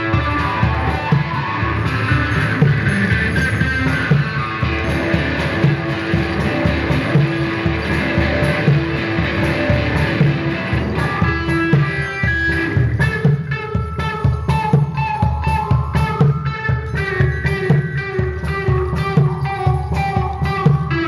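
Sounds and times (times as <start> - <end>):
electric guitar droning figure: 0.0 - 21.0
low percussion beats: 0.0 - 21.0.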